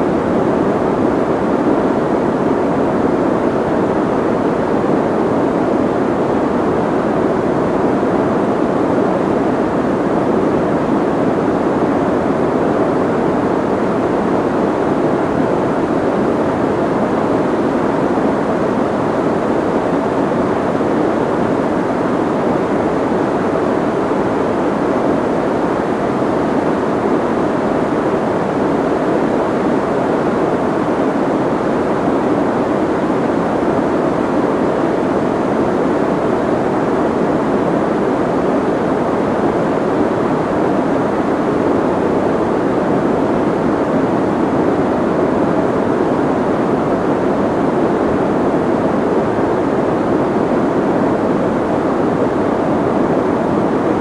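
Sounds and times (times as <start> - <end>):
soft muffled white noise: 0.0 - 54.0.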